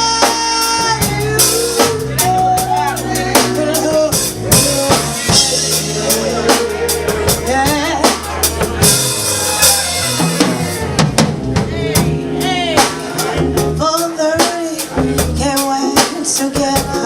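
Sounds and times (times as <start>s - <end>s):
drum kit kick and snare: 0.0s - 17.0s
live band playing: 0.0s - 17.0s.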